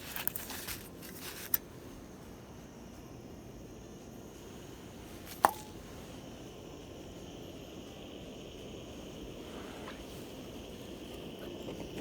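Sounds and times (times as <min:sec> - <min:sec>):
campfire hissing: 0:00.0 - 0:12.0
fire crackles: 0:00.0 - 0:12.0.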